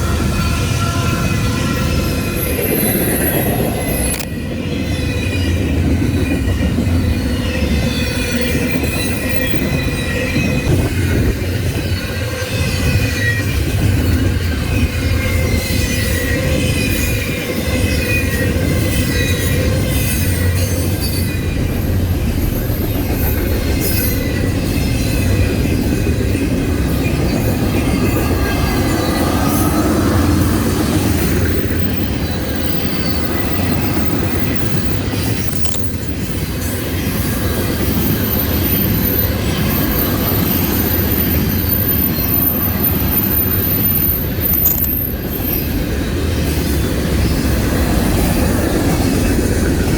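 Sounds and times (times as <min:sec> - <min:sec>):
freight train rumbling past: 0:00.0 - 0:49.9
train wheels squealing: 0:00.0 - 0:49.9.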